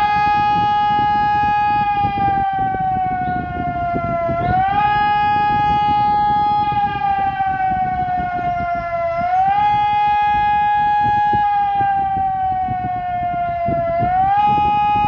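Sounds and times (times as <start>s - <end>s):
rough low rumbling: 0.0s - 15.0s
siren rising and falling: 0.0s - 15.0s.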